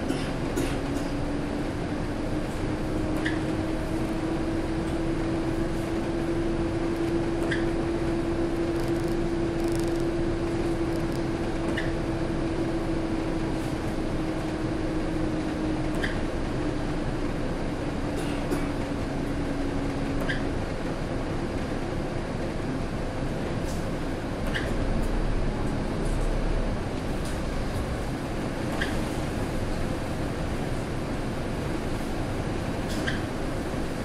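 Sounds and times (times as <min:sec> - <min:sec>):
bus engine humming: 0:00.0 - 0:34.0.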